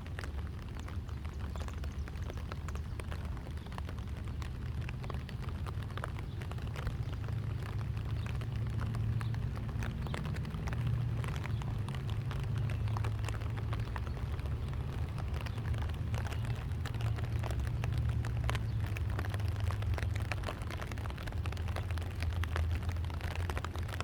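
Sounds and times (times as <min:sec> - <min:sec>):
rain falling: 0:00.0 - 0:24.0
raindrop ticks: 0:00.0 - 0:24.0.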